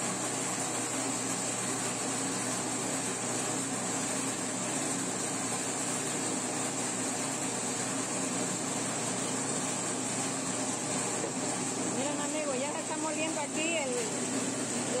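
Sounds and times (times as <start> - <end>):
grain mill motor humming: 0.0 - 15.0.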